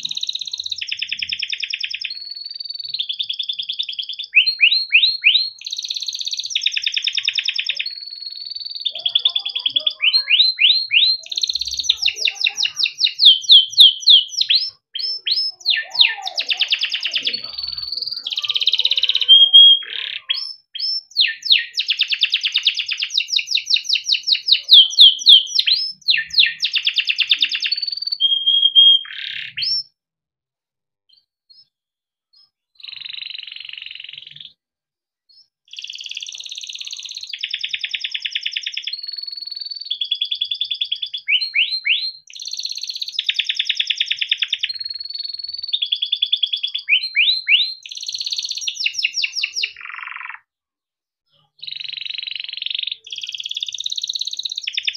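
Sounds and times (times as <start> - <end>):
canary singing trills and chirps: 0.0 - 30.0, 31.1 - 31.7, 32.3 - 34.6, 35.3 - 50.5, 51.3 - 54.9.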